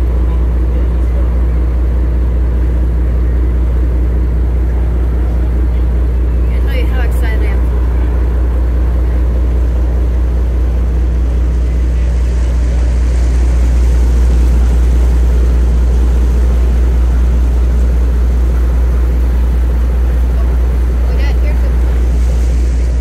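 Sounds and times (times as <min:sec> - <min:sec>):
boat engine drone: 0:00.0 - 0:23.0.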